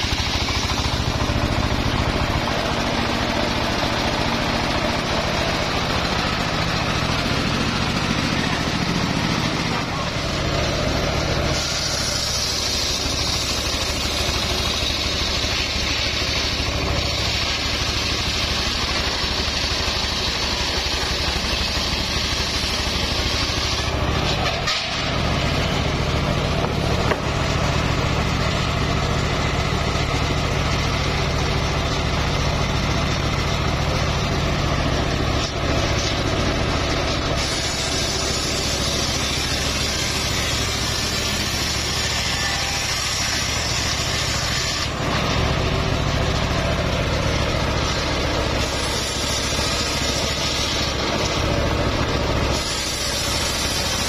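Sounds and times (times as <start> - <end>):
engine-driven circular saw running: 0.0 - 54.0
saw blade cutting whine: 0.0 - 54.0.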